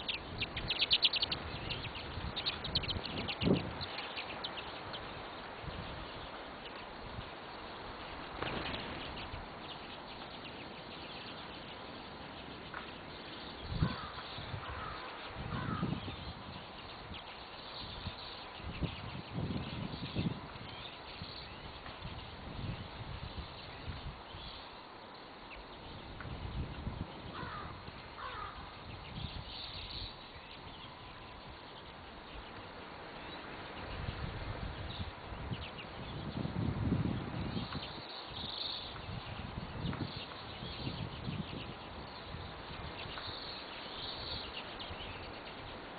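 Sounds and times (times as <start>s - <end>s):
small birds chipping: 0.0s - 45.9s
steady background hiss: 0.0s - 45.9s.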